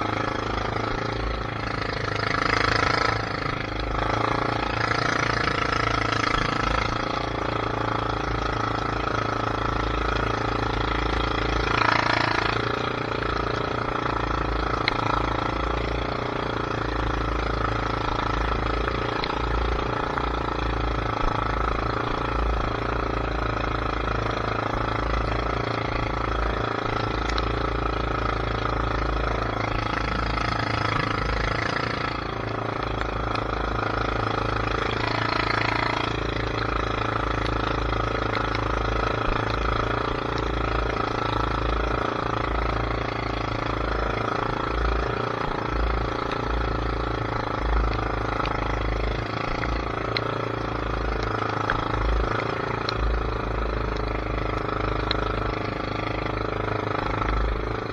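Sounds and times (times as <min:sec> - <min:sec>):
motor drone: 0:00.0 - 0:57.9.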